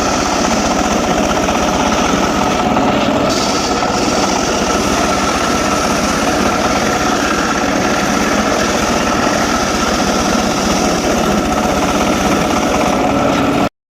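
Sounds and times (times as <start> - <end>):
circular saw running: 0.0 - 13.7.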